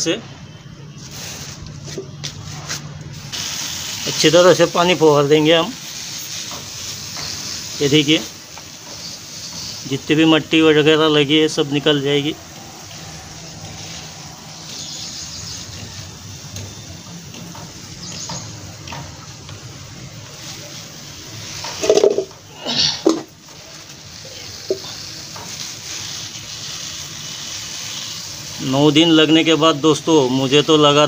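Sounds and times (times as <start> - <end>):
water sprayer hissing: 0.9 - 31.0.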